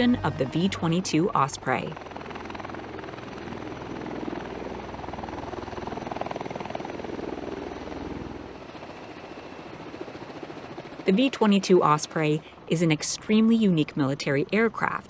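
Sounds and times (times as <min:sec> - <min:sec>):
aircraft rotors and engines running: 0:00.0 - 0:15.0.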